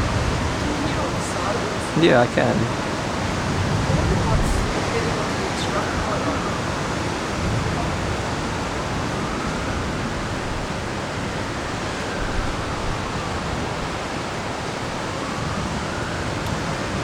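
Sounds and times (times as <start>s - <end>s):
rain and wind hissing: 0.0s - 17.0s.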